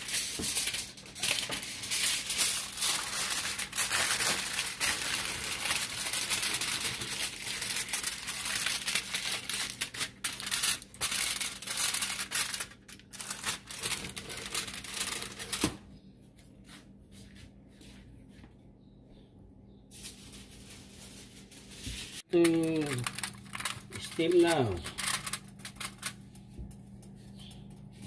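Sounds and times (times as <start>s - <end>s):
aluminium foil crinkling: 0.0s - 15.9s, 19.9s - 28.0s.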